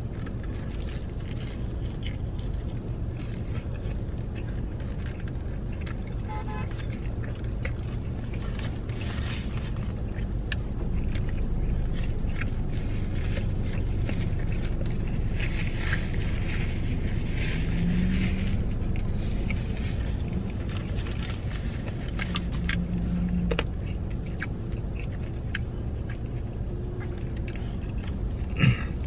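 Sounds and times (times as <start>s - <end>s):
car engine humming: 0.0s - 29.0s
chewing crispy fried chicken: 0.0s - 29.0s.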